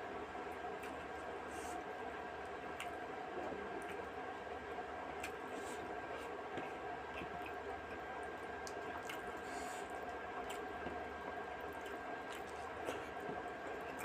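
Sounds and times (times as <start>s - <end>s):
steady background hum: 0.0s - 14.0s
person chewing food wetly: 0.4s - 14.0s.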